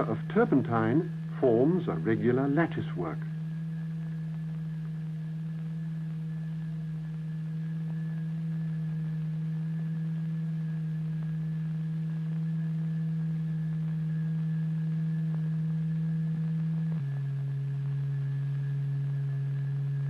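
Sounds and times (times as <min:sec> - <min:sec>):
low electronic tone: 0:00.0 - 0:20.0.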